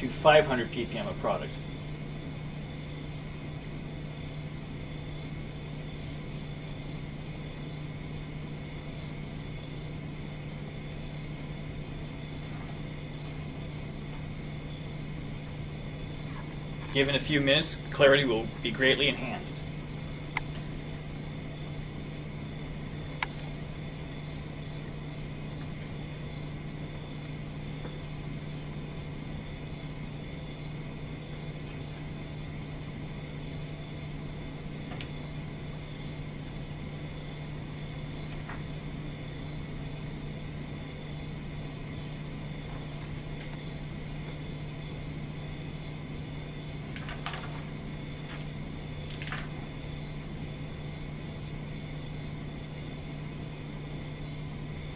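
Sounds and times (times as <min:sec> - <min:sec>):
constant hiss: 0:00.0 - 0:54.9
steady low hum: 0:00.0 - 0:54.9.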